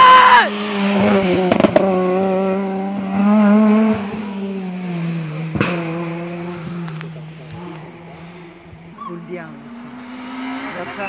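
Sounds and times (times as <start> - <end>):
rally car engine passing: 0.0 - 11.0.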